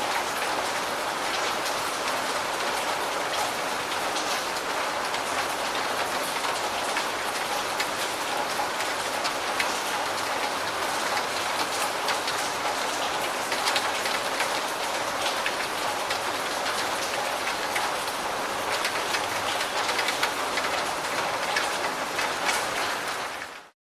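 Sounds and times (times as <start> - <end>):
raindrops ticking on a surface: 0.0 - 23.8
steady rain falling: 0.0 - 23.8.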